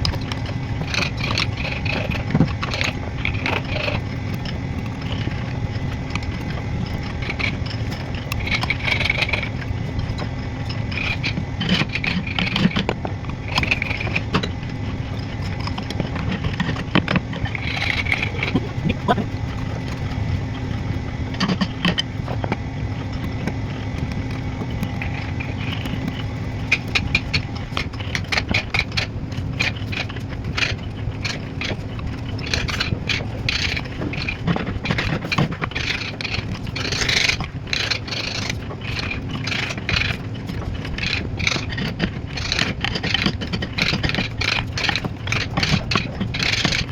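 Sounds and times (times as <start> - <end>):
carving tools tapping and scraping wood: 0.0 - 46.9
steady low hum: 0.0 - 46.9.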